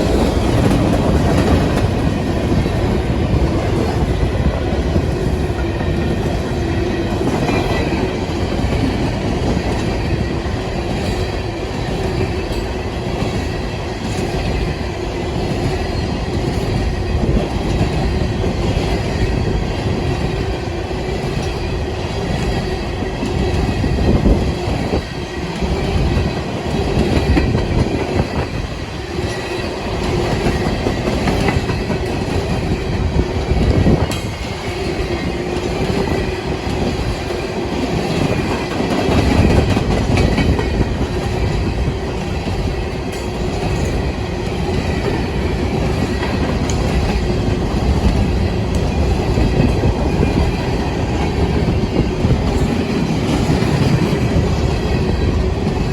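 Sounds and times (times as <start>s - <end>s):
train wheels clicking over rail joints: 0.0s - 55.9s.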